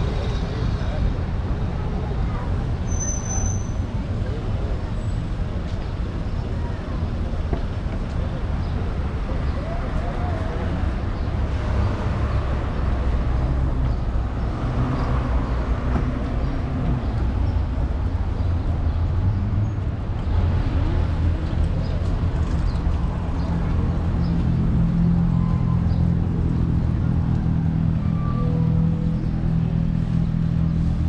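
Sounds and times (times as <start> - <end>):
street traffic rumble: 0.0 - 31.0
vehicle engine hum: 3.6 - 31.0.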